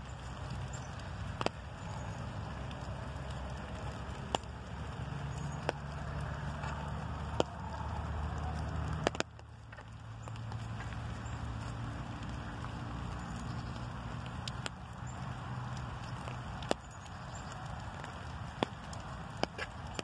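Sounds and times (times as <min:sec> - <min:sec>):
faint rain wash: 0:00.0 - 0:20.0
steady low rumble: 0:00.0 - 0:20.0.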